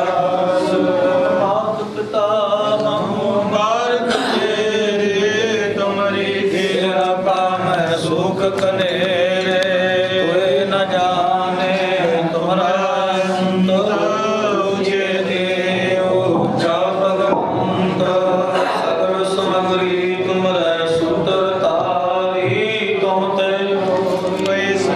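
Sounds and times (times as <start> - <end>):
voices chanting: 0.0 - 24.9.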